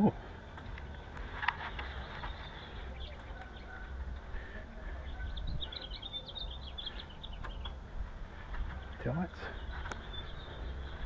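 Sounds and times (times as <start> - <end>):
bird chirping: 0.0 - 11.0
steady low hum: 0.0 - 11.0.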